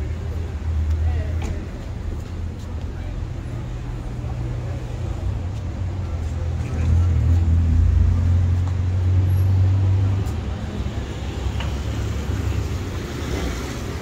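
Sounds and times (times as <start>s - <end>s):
road traffic passing: 0.0s - 14.0s
vehicle engine rumble: 0.0s - 14.0s.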